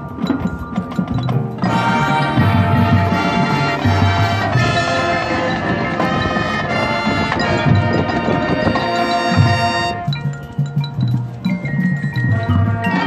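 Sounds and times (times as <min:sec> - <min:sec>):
band playing: 0:00.0 - 0:13.0
bell-like mallet percussion: 0:00.0 - 0:13.0
low pulsing drum beat: 0:00.0 - 0:13.0.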